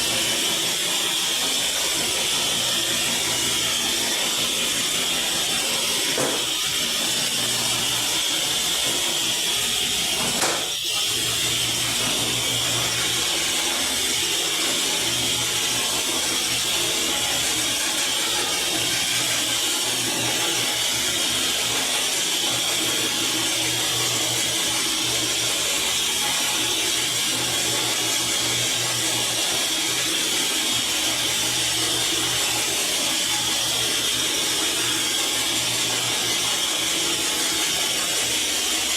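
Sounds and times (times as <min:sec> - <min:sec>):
power tool cutting board: 0:00.0 - 0:38.9.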